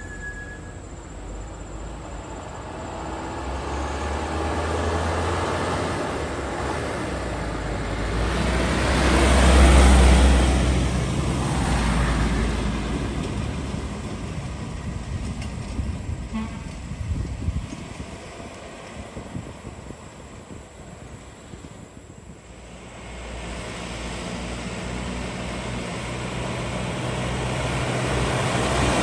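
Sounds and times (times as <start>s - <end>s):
diesel truck passing by: 0.0s - 29.0s.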